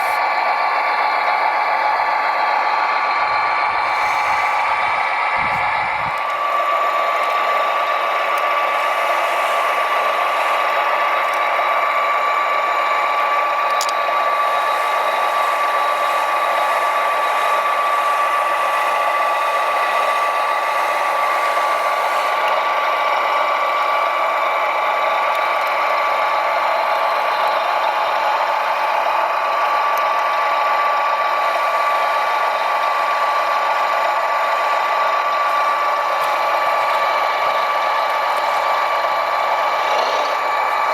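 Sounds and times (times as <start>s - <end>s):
small electric motors whining: 3.7s - 40.9s.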